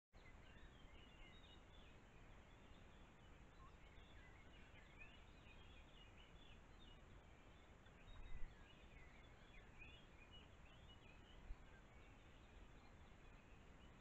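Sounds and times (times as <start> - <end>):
songbirds chirping and whistling: 0.2 - 14.0.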